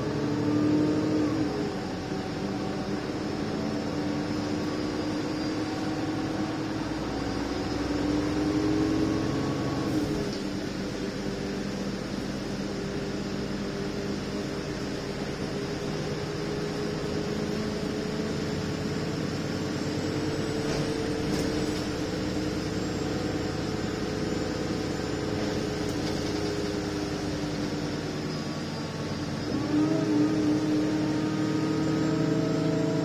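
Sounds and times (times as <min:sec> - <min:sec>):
bus engine drone: 0:00.0 - 0:33.0
road and tyre noise: 0:00.0 - 0:33.0.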